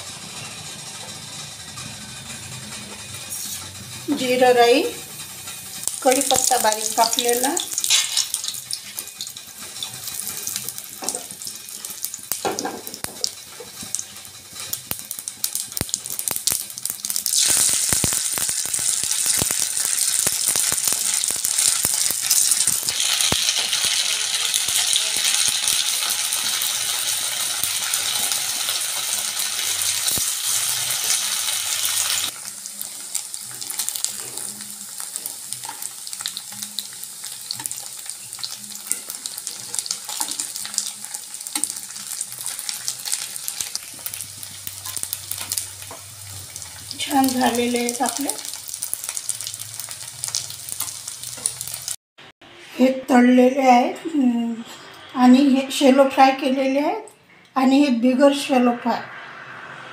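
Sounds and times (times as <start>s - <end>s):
food sizzling in oil: 0.0s - 52.0s
spices crackling in hot oil: 0.1s - 52.0s.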